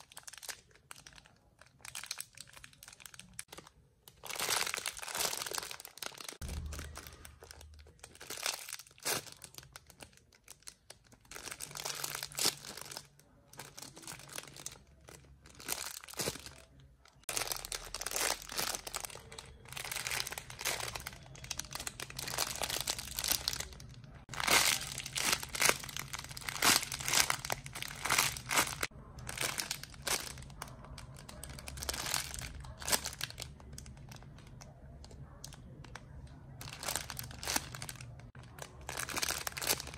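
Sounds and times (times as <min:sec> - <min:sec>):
squishy toys crinkling and rustling: 0:00.0 - 0:39.9.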